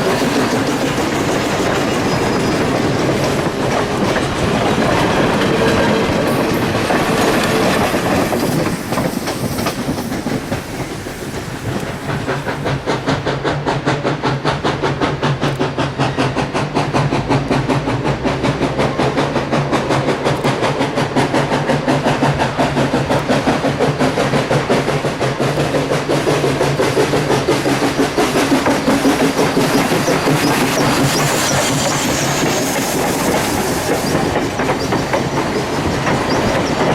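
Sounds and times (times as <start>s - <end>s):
steam locomotive rhythmic beat: 0.0s - 36.9s.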